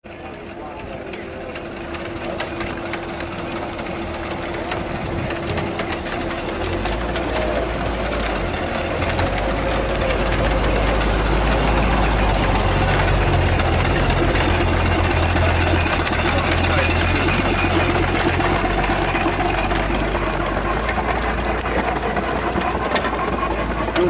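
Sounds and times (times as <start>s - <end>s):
miniature steam engines running: 0.0s - 24.0s
low engine hum: 0.1s - 24.0s.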